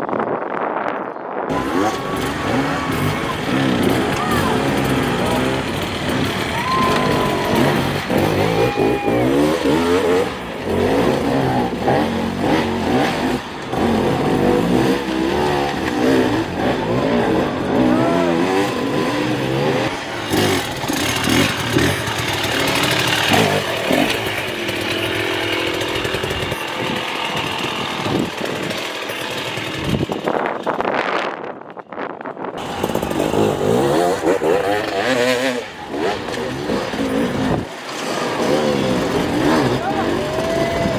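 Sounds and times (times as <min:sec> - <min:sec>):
dirt bike engines revving: 0:01.5 - 0:40.9.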